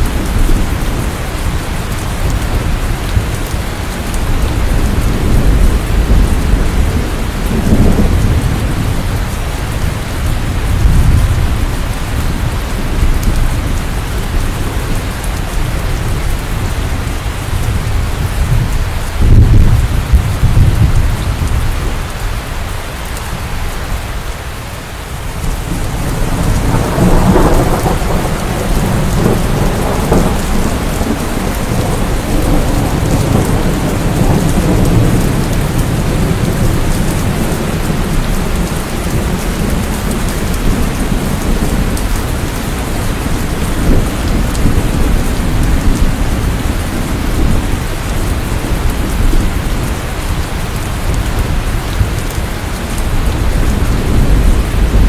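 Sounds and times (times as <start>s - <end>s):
rolling thunder: 0.0s - 22.4s, 25.2s - 55.0s
heavy rainfall: 0.0s - 55.0s.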